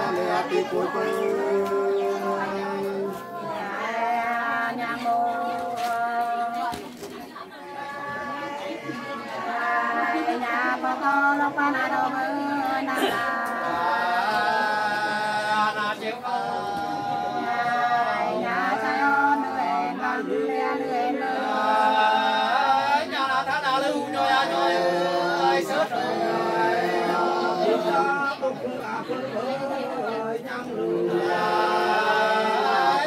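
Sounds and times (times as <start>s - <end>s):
women singing unaccompanied: 0.0s - 33.0s.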